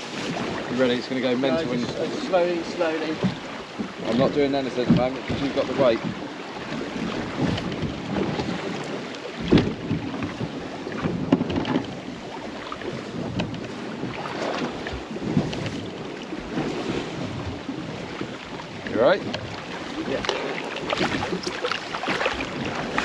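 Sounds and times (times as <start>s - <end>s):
water slapping boat hull: 0.0s - 23.0s
wind buffeting microphone: 0.0s - 23.0s.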